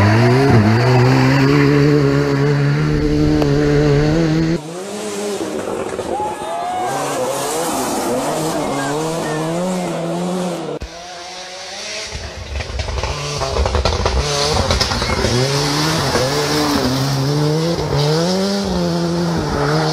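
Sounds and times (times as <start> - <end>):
rally car engine revving: 0.0 - 6.2, 6.8 - 19.9.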